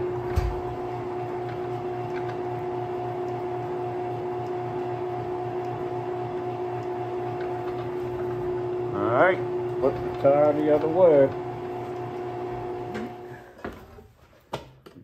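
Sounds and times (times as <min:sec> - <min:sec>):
metal lathe humming and whining: 0:00.0 - 0:13.3.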